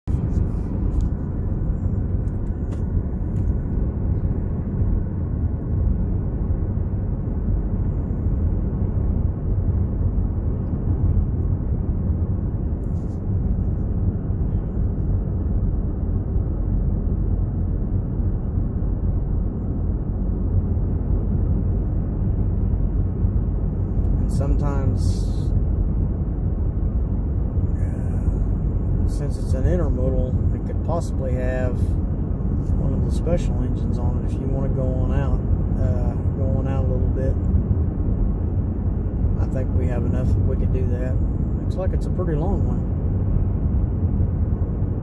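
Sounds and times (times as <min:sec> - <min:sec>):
low vehicle rumble: 0:00.0 - 0:45.0.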